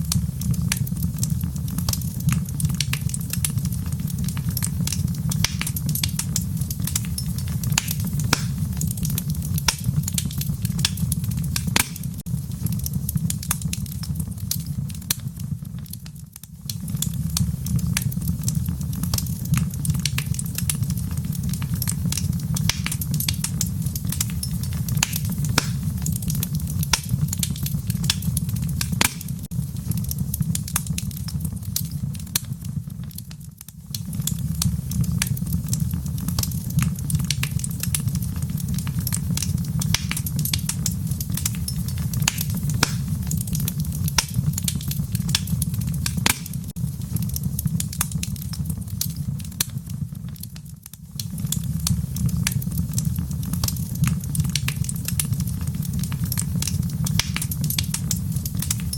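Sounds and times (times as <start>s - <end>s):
fire crackling and popping: 0.0s - 58.9s
low fire rumble: 0.0s - 58.9s.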